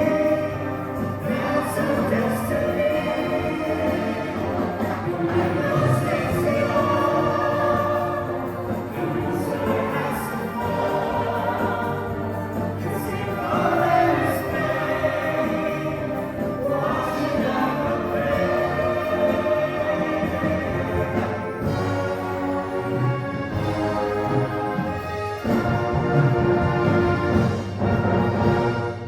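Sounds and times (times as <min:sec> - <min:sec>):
choir singing: 0:00.0 - 0:29.0
instrumental accompaniment: 0:00.0 - 0:29.0.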